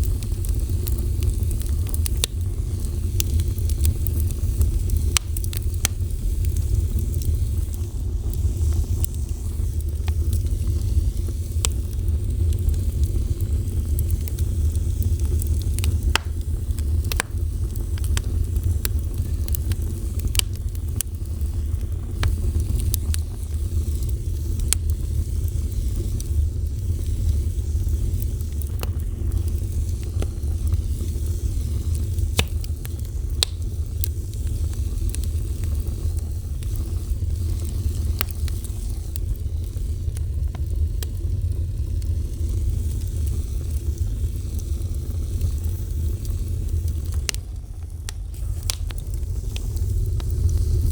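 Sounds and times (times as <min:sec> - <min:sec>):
fire burning: 0:00.0 - 0:50.9
fire crackles and pops: 0:00.0 - 0:50.9.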